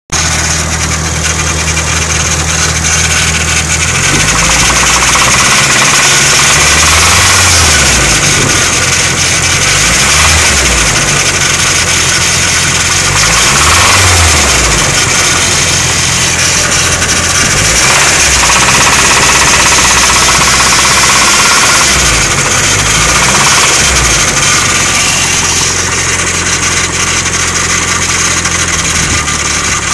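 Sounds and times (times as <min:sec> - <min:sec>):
car engine idling and revving: 0:00.1 - 0:29.9
engine knock: 0:00.1 - 0:29.9.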